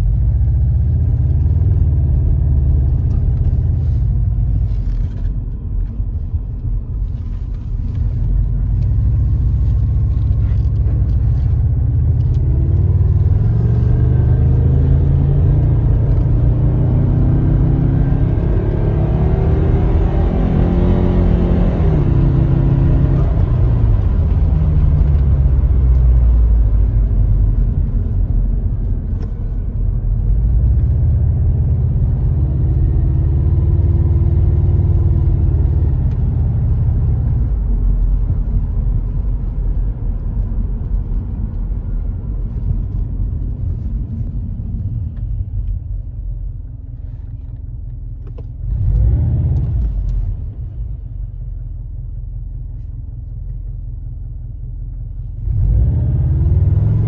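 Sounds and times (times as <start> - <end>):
car engine accelerating: 0.0 - 57.0
road noise inside car: 0.0 - 57.0.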